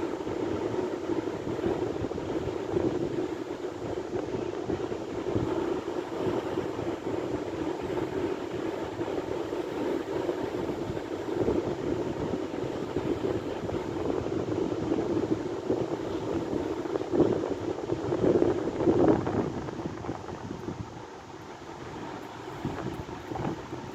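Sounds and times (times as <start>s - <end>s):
sea waves and surf: 0.0s - 23.9s.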